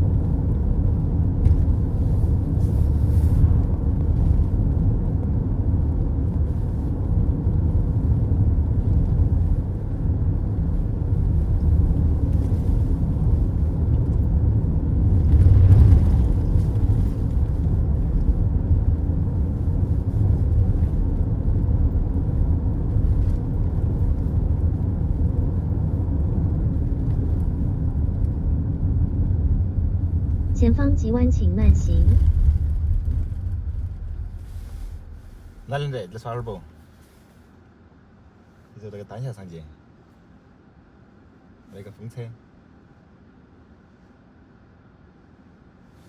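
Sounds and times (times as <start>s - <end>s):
car tyres and engine rumbling: 0.0s - 46.0s.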